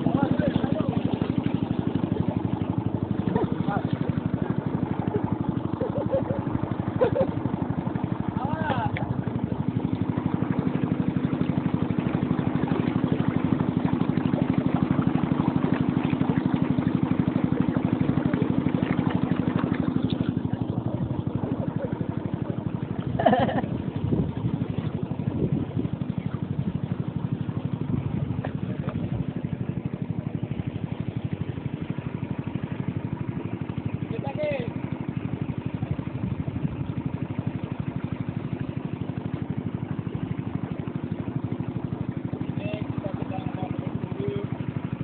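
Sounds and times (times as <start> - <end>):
small boat engine running: 0.0 - 45.0.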